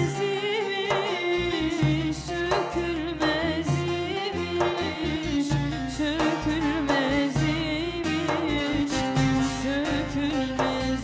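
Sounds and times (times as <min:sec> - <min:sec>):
strummed long-necked lute: 0:00.0 - 0:11.0.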